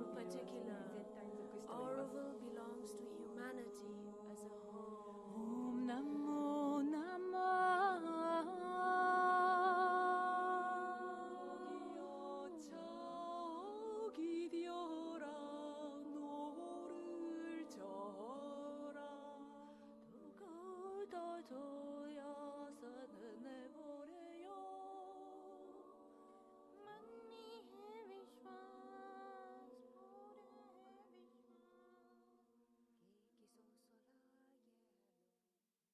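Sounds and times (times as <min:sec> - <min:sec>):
women singing a cappella: 0:00.0 - 0:32.1.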